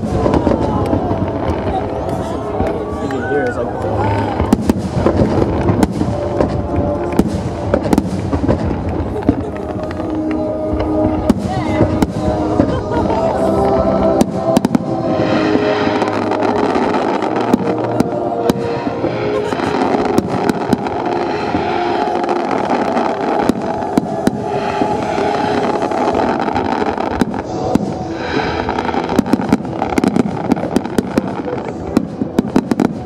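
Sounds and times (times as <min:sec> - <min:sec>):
dense fireworks crackle: 0:00.0 - 0:33.0.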